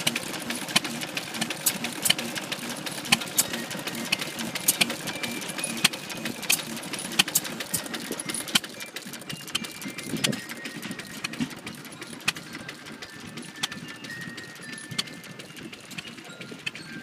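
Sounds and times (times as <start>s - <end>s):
small engines ticking and popping: 0.0s - 17.0s.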